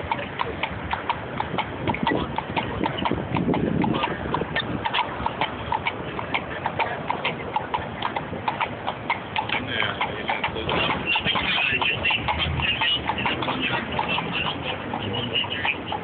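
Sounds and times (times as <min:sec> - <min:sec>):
horse hooves clip-clopping on asphalt: 0:00.0 - 0:16.0.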